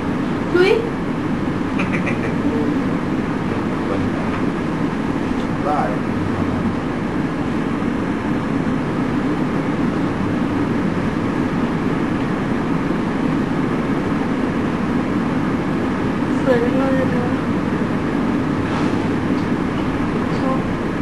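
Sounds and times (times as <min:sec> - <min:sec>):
steady low rumbling: 0:00.0 - 0:21.0.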